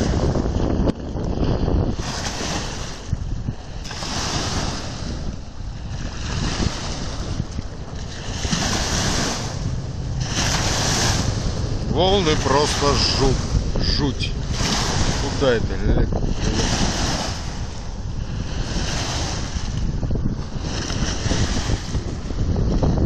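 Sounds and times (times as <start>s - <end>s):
waves breaking on shore: 0.0s - 23.0s
wind buffeting microphone: 0.0s - 23.0s.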